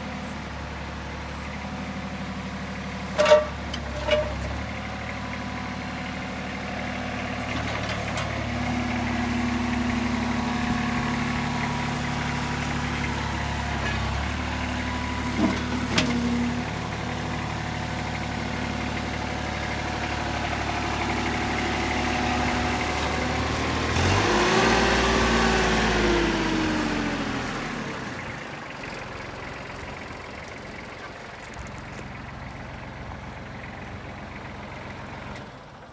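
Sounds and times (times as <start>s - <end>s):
backhoe diesel engine running: 0.0s - 35.9s.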